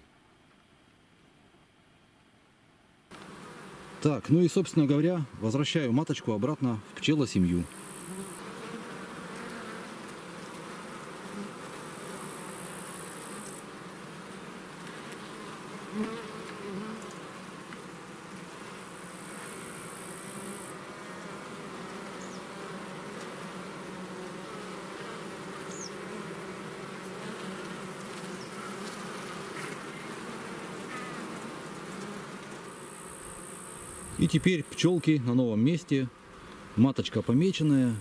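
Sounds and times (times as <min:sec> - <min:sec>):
honey bees buzzing: 0:03.1 - 0:38.0.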